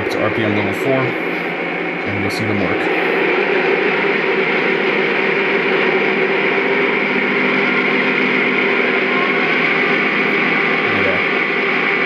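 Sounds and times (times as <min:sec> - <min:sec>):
diesel engine sound from speaker: 0:00.0 - 0:12.0
radiator fans spinning: 0:00.0 - 0:12.0.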